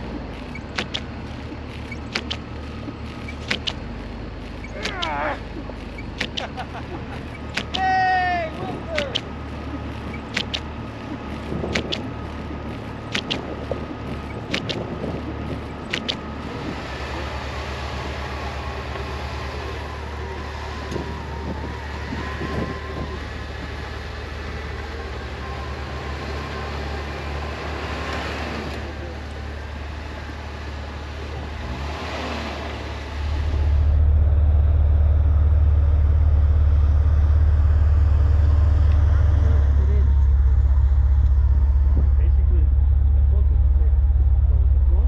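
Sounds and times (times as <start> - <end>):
wavering whine: 0.0 - 31.7, 32.8 - 45.0
vehicle engine running: 0.0 - 45.0.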